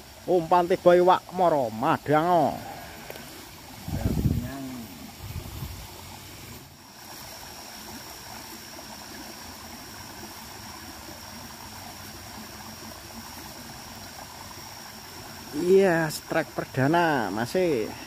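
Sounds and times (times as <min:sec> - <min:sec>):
water trickling over stones: 0:00.0 - 0:18.0.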